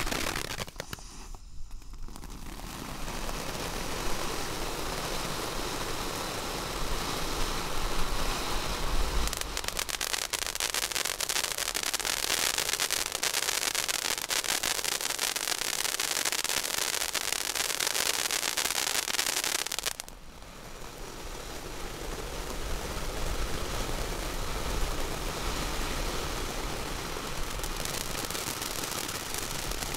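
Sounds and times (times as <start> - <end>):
firework rapid crackling: 0.0 - 29.9
firework sparks hissing: 0.0 - 29.9.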